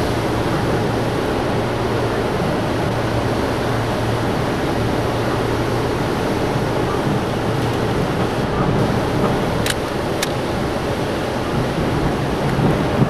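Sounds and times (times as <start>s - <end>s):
hurricane wind rushing: 0.0s - 13.0s.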